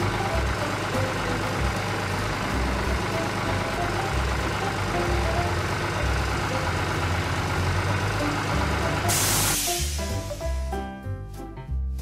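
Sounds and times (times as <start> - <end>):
heavy truck engines rumbling: 0.0 - 10.7.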